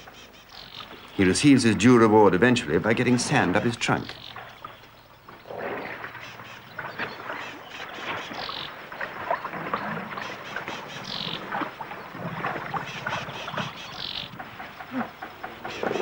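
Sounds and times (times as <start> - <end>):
muddy water splashing: 0.7 - 16.0.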